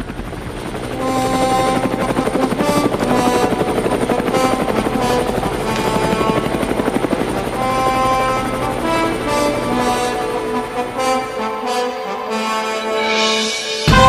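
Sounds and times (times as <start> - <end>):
helicopter rotor chopping: 0.0 - 13.1
background music with held notes: 0.8 - 14.0.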